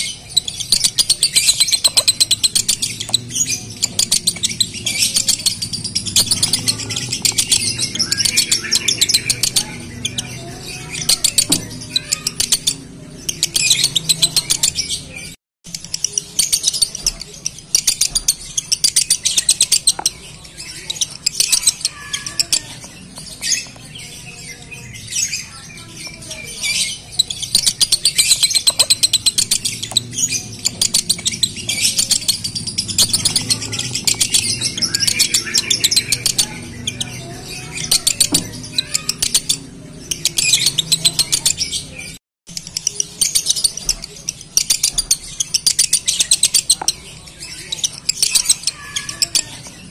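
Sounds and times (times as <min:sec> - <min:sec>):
lovebird rapid chatter song: 0:00.0 - 0:49.9.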